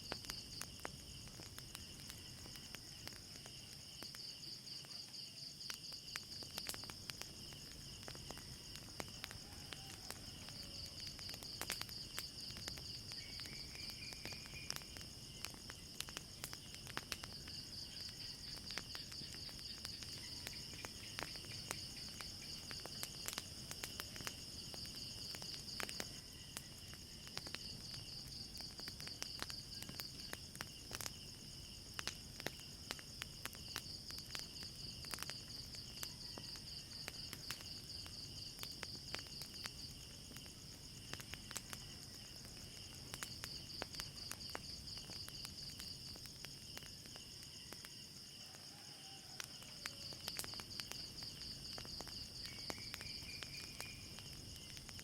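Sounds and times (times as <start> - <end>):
night insects trilling: 0.0 - 55.0
wood fire crackling and popping: 0.0 - 55.0.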